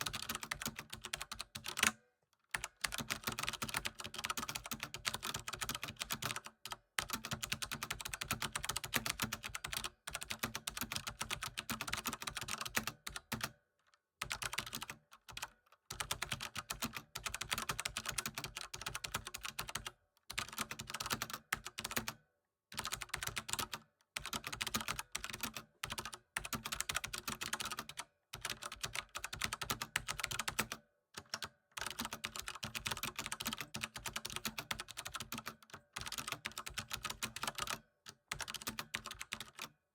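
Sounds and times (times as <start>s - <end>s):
typing on computer keyboard: 0.0s - 13.6s, 14.2s - 39.8s.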